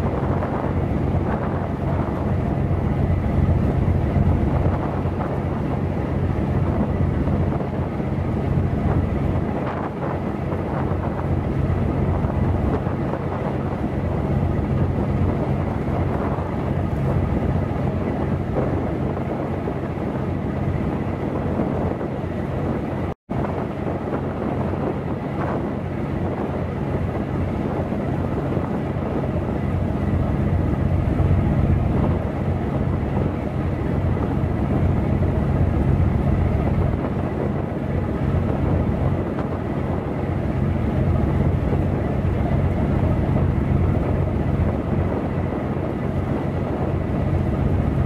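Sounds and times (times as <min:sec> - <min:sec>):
ship engine drone: 0:00.0 - 0:48.0.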